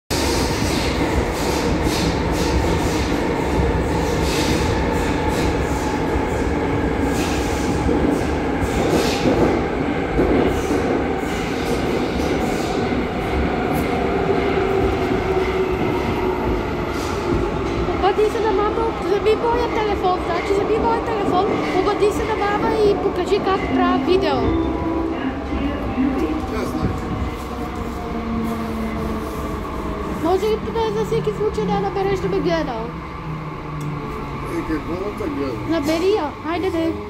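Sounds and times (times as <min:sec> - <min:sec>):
train wheels rumbling: 0:00.1 - 0:37.0.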